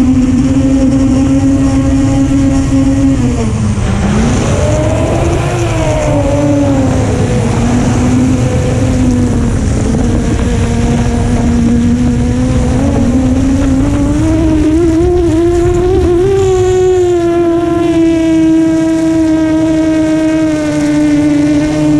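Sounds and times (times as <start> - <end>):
steady low rumble: 0.0 - 19.8
drone motors whining: 0.0 - 21.9.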